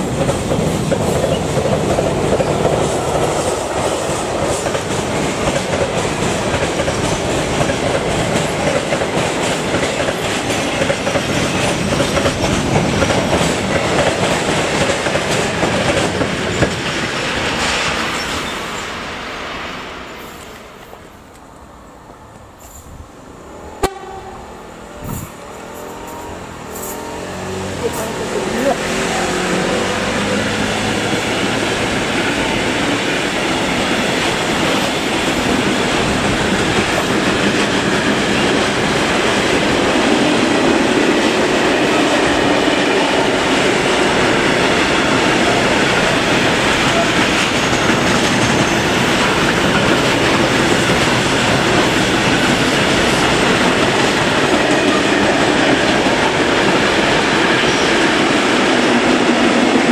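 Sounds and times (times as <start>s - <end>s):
freight train wheels rattling: 0.0s - 19.0s, 23.8s - 59.9s.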